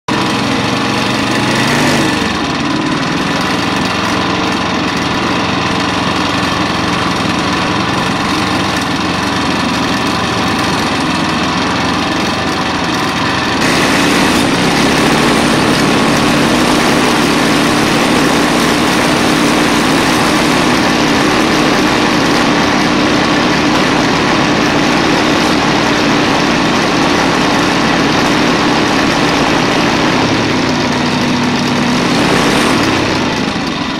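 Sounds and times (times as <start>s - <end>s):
walking tractor engine running: 0.1s - 33.9s.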